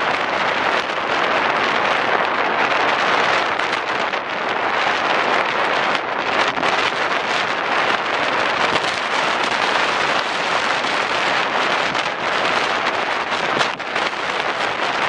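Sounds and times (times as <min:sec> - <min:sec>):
strong wind across microphone: 0:00.0 - 0:15.0.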